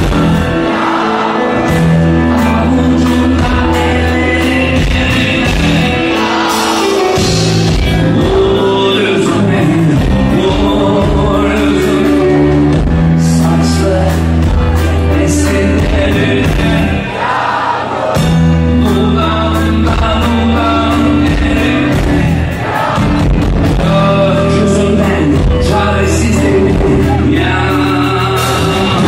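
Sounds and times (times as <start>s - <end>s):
electric guitar: 0.0s - 17.1s, 18.2s - 29.0s
bass guitar: 0.0s - 17.2s, 18.0s - 29.0s
man singing: 0.0s - 17.2s, 18.2s - 29.0s
drums: 0.0s - 29.0s.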